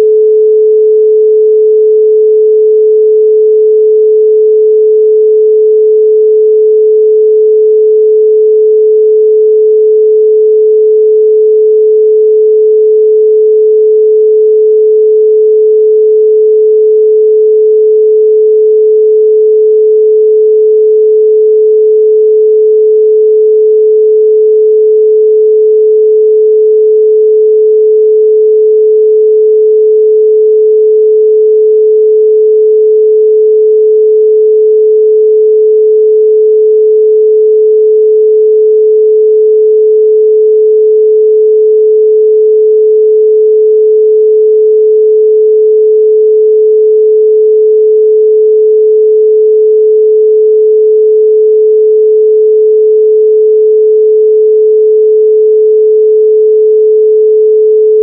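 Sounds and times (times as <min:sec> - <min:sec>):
steady pure sine tone: 0:00.0 - 0:58.0.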